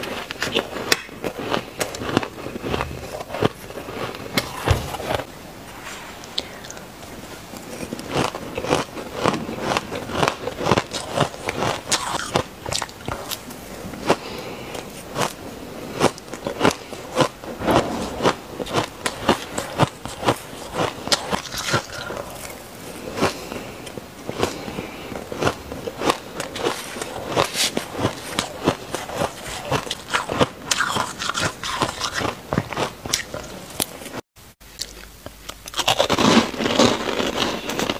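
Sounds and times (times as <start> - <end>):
crunching frozen ice: 0.0 - 5.3, 7.5 - 34.2, 34.9 - 37.9.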